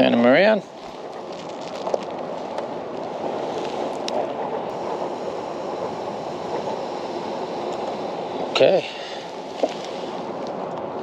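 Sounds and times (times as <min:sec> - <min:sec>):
water rushing around kayak: 0:00.7 - 0:11.0.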